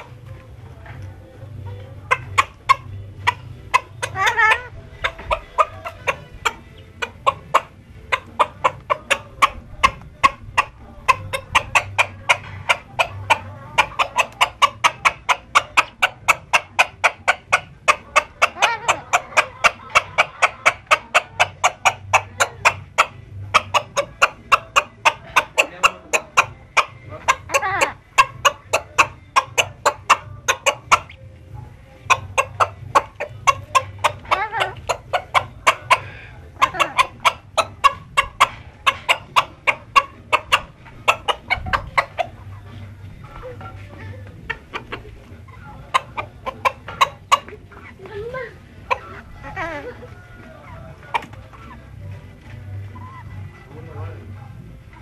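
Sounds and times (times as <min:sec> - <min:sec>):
chicken clucking: 0:00.0 - 0:55.0.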